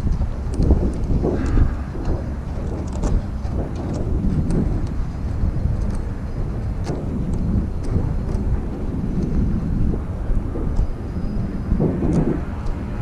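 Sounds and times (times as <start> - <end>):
faint ticks: 0.0 - 13.0
wind buffeting microphone: 0.0 - 13.0.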